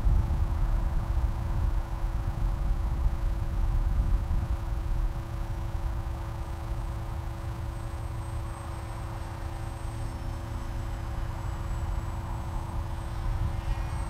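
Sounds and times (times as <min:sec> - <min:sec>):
faint steady hum: 0:00.0 - 0:14.0
wind rumbling on microphone: 0:00.0 - 0:14.0.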